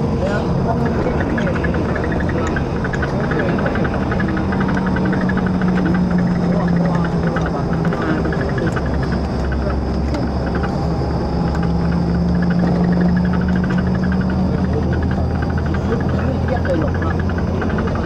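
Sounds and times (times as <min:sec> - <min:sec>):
faint background chatter: 0:00.0 - 0:18.0
vehicle engine drone: 0:00.0 - 0:18.0.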